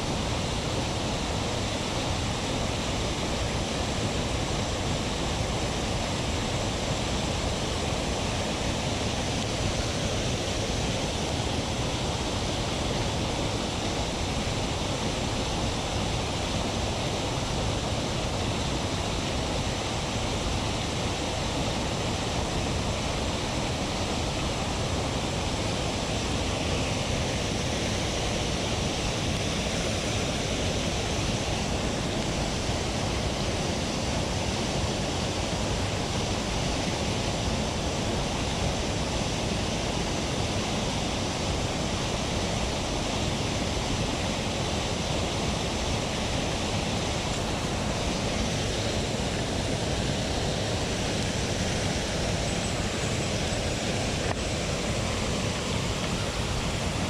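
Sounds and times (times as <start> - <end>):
mountain stream water rushing: 0.0 - 57.0.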